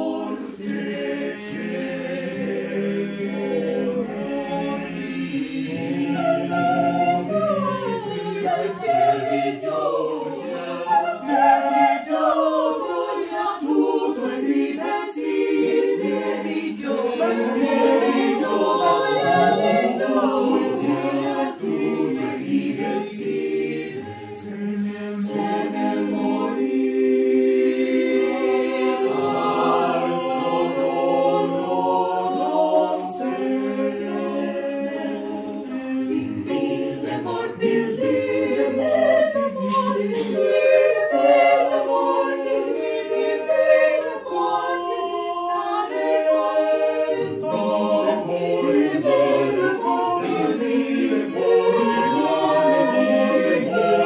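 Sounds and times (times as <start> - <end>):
mixed choir singing a cappella: 0.0 - 54.0.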